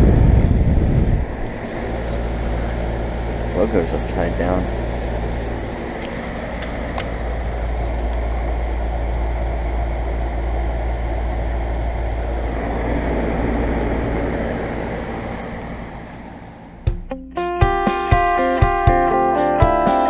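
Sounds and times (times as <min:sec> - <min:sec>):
air conditioner unit humming: 0:00.0 - 0:20.0.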